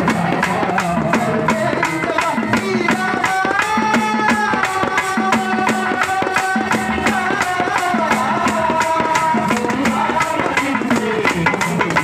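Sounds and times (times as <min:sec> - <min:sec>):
percussion beat with low drum: 0:00.0 - 0:12.0.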